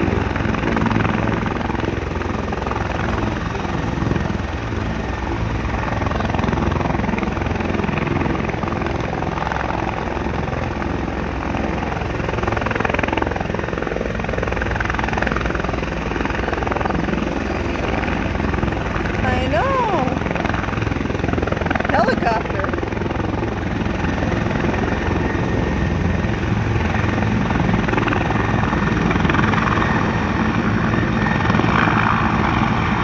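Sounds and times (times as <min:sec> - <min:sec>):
helicopter rotor and engine: 0:00.0 - 0:33.0.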